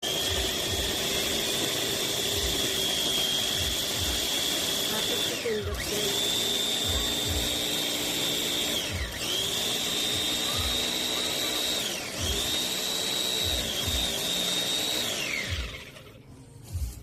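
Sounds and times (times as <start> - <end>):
food processor motor whine: 0.0 - 16.3.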